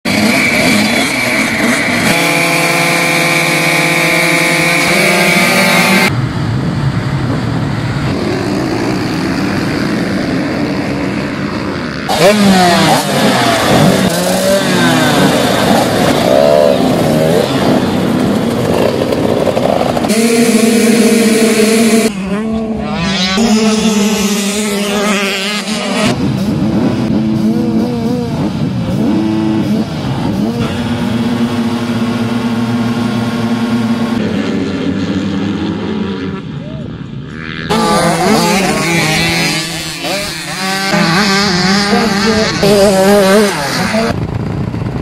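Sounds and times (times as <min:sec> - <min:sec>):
motocross motorcycles revving: 0:00.0 - 0:45.0
motorcycles accelerating hard: 0:00.0 - 0:45.0.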